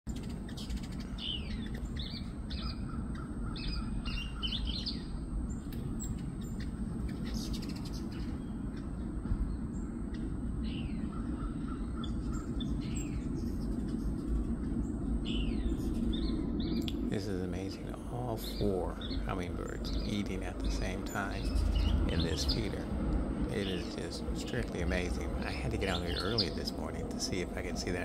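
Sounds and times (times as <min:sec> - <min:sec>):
birds chirping: 0:00.1 - 0:28.0
low background rumble: 0:00.1 - 0:28.0.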